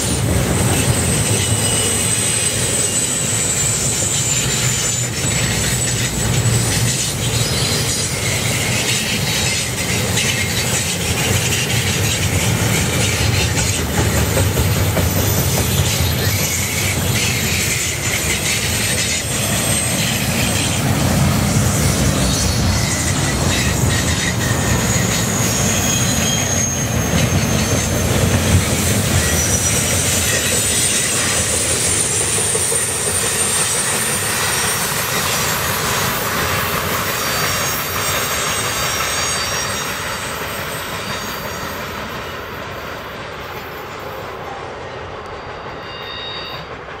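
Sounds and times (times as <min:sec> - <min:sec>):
high-pitched wheel squeal: 0:00.0 - 0:42.8, 0:45.6 - 0:47.0
train wheels rumbling on rails: 0:00.0 - 0:47.0.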